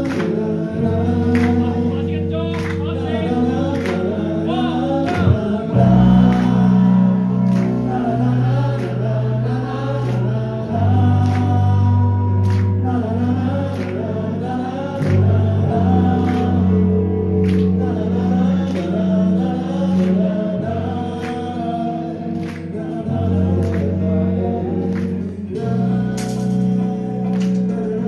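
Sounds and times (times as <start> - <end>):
person singing: 0.0 - 28.0
sustained bass notes: 0.0 - 28.0.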